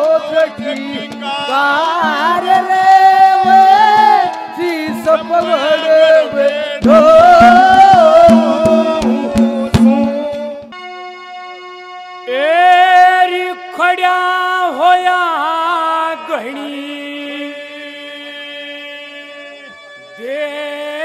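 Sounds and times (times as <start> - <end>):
man singing into microphone: 0.0 - 10.8, 12.3 - 21.0.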